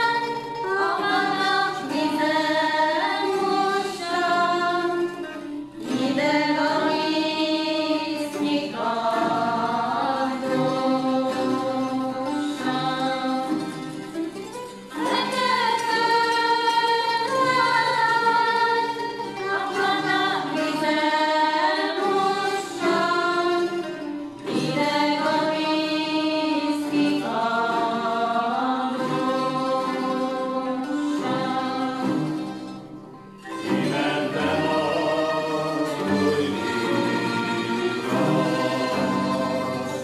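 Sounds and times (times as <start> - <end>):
group singing folk song: 0.0 - 40.0
zithers strummed in tremolo: 0.0 - 40.0.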